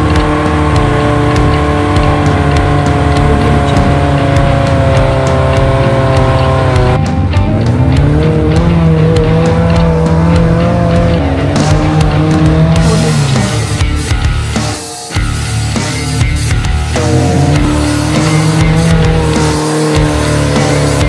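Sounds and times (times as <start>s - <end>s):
engine labouring under load: 0.0s - 14.6s, 15.7s - 21.0s.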